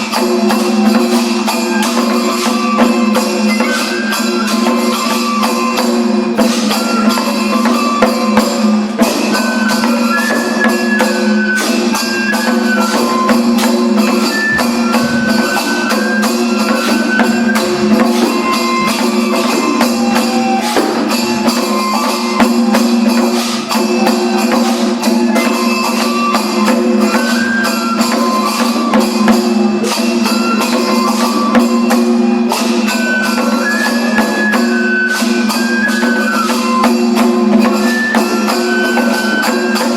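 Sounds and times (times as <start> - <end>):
bamboo flute melody: 0.0 - 39.9
clicking percussion: 0.0 - 39.9
rapid drumming: 0.0 - 39.9.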